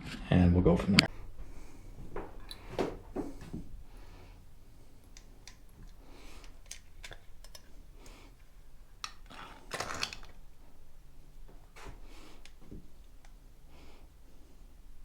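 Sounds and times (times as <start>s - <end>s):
small parts clicking and rattling: 1.1s - 15.0s.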